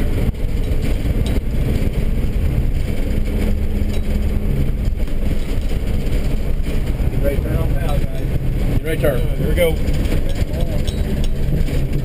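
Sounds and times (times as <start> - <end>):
steady hum: 0.0 - 12.0
vehicle engine and road rumble: 0.0 - 12.0.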